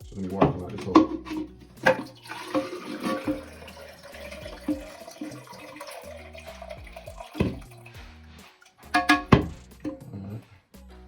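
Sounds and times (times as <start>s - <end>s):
water trickling and dripping: 0.1s - 10.2s.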